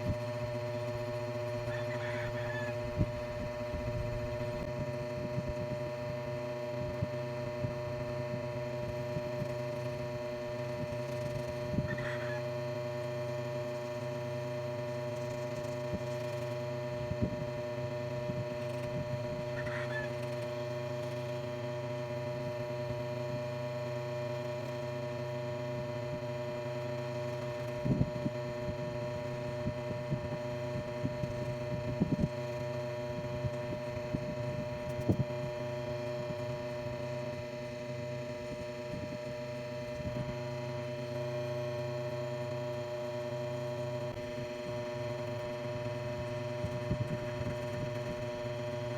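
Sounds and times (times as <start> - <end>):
electrical hum: 0.0 - 48.9.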